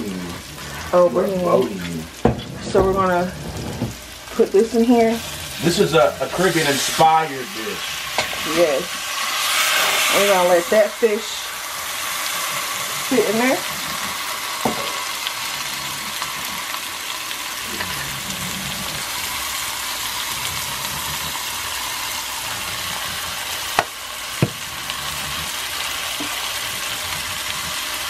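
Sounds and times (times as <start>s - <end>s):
fish frying in oil: 0.0s - 28.0s.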